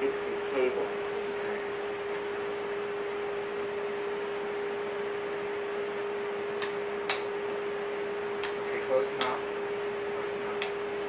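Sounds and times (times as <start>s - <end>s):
steady hum over hiss: 0.0s - 11.0s.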